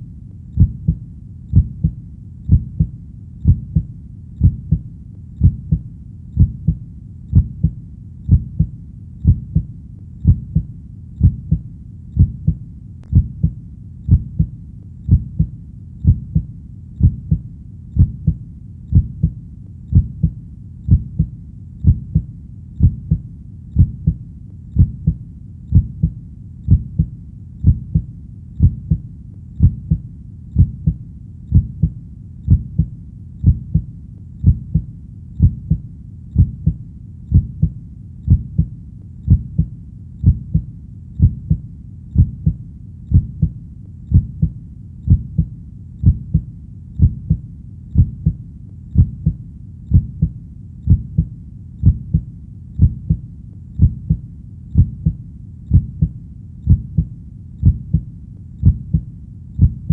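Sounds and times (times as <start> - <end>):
faint low hum: 0.0 - 59.9
heartbeat: 0.0 - 59.9.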